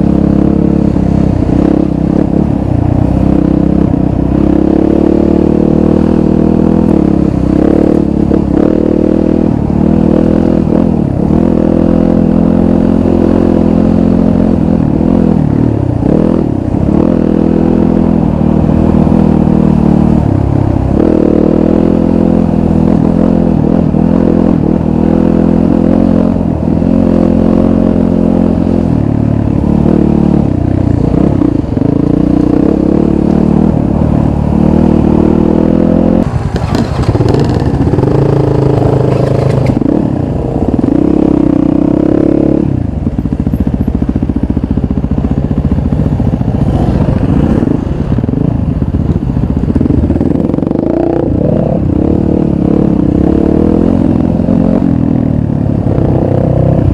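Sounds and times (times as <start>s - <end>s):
dirt bike engine revving: 3.2s - 42.8s, 49.4s - 56.9s.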